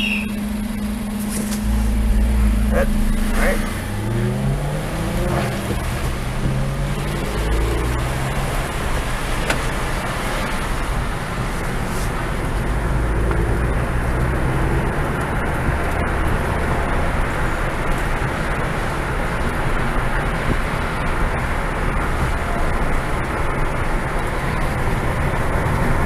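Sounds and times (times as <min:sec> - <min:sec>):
car engine accelerating: 0:00.0 - 0:26.0
tyres hissing on wet road: 0:01.1 - 0:26.0.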